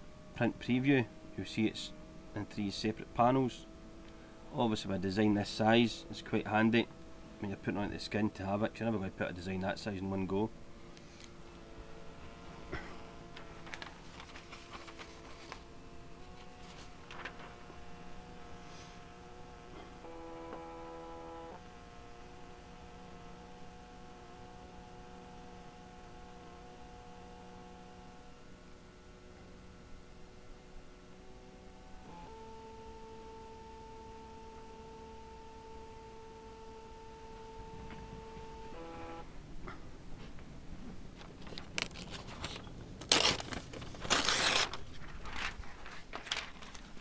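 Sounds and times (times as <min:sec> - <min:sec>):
printer motor whine: 0:00.0 - 0:39.3.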